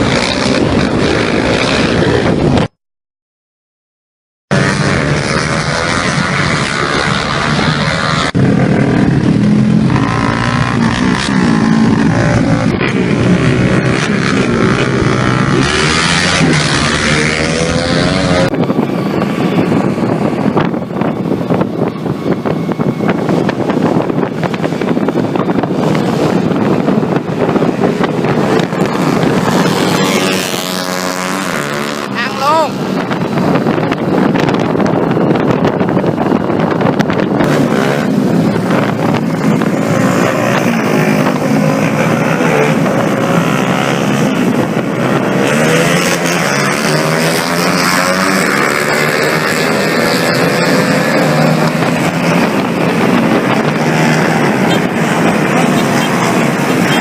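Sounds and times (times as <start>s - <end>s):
rough engine noise: 0.0s - 2.7s, 4.5s - 57.0s
small motorcycle engines revving: 0.0s - 2.7s, 4.5s - 57.0s
wind on microphone: 0.0s - 2.7s, 4.5s - 57.0s.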